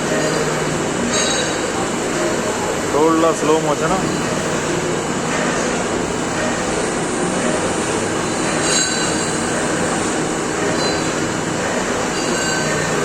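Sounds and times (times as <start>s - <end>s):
cnc machine running: 0.0s - 13.0s.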